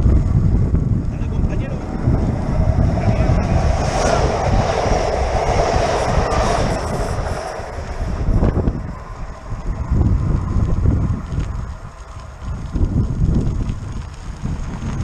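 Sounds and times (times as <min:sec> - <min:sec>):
electric train passing: 0:00.0 - 0:12.7
wind buffeting microphone: 0:00.0 - 0:15.0.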